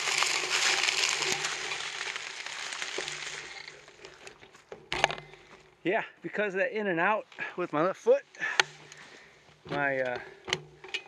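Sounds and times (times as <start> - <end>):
bicycle tyres crunching leaves: 0.0 - 5.8, 7.7 - 10.9.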